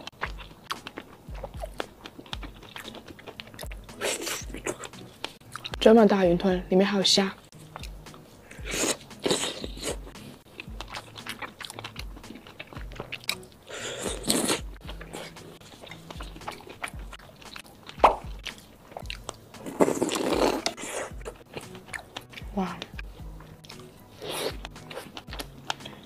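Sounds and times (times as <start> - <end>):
biting and chewing food: 0.0 - 5.9, 7.4 - 26.0.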